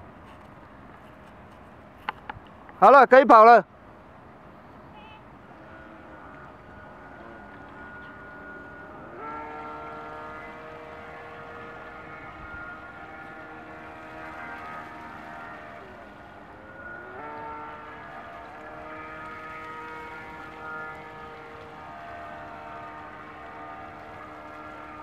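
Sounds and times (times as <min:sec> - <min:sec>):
boat motor whining: 0:04.5 - 0:25.0.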